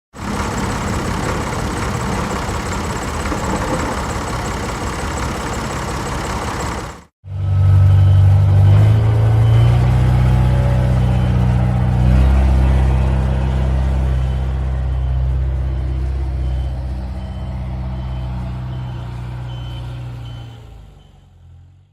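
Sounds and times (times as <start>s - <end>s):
tractor engine running: 0.1s - 20.6s.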